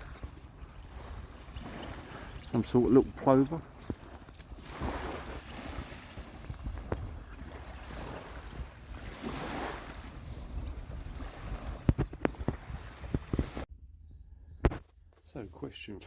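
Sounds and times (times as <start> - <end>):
sea waves washing on shore: 0.0 - 13.7
wind buffeting microphone: 0.0 - 14.8.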